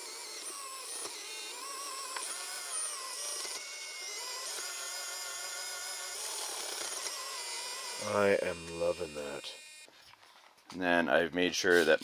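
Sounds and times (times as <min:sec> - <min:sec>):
electric motor gear whine: 0:00.0 - 0:09.9.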